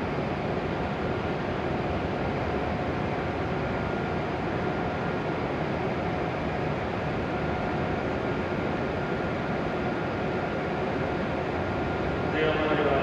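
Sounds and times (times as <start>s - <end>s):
train equipment whirring hum: 0.0s - 13.0s.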